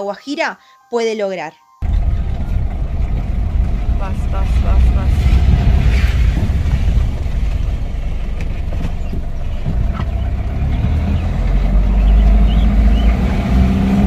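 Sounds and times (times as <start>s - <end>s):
engine low rumble: 1.8s - 14.0s.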